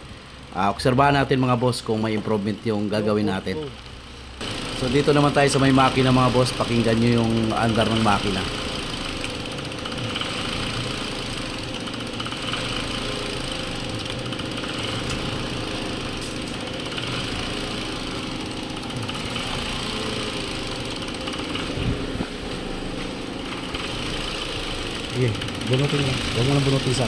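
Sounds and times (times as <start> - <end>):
car engine idling roughly: 0.0 - 27.0.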